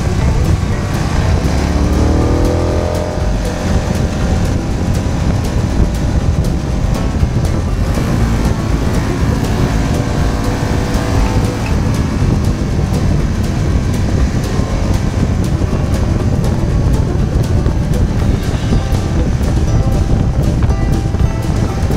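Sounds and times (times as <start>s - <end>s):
motorcycle engine running: 0.0s - 21.9s
wind rumble on microphone: 0.0s - 21.9s.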